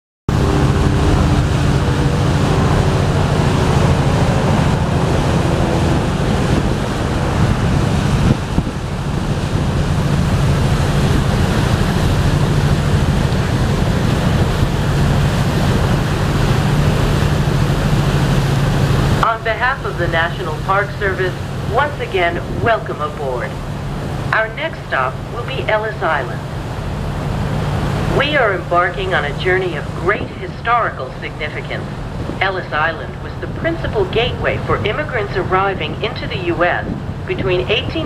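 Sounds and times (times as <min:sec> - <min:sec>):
ship engines droning: 0:00.3 - 0:38.0
water rushing past hull: 0:00.3 - 0:38.0
wind buffeting microphone: 0:00.3 - 0:38.0.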